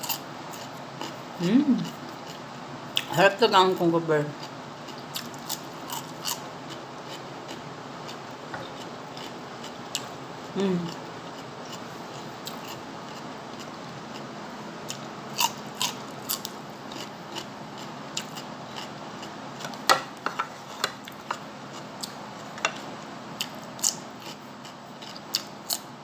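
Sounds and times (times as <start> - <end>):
steady low hum: 0.0 - 26.0
chewing crispy food: 4.3 - 19.9, 20.6 - 26.0.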